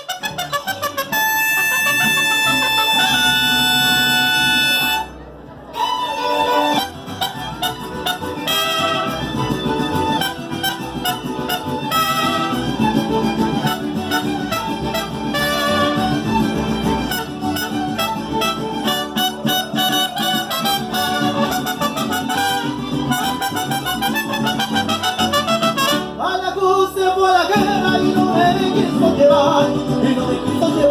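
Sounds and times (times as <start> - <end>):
mariachi band with harp: 0.0 - 30.9.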